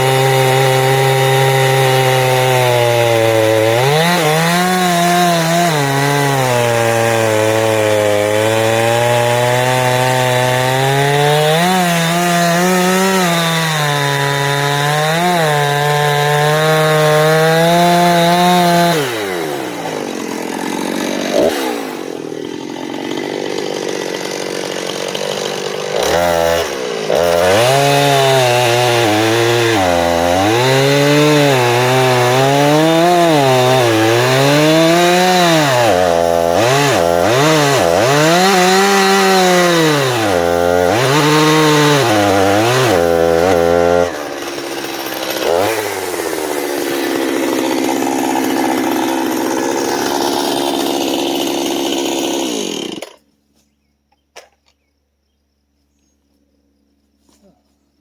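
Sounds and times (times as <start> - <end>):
chainsaw cutting wood: 0.0 - 54.8.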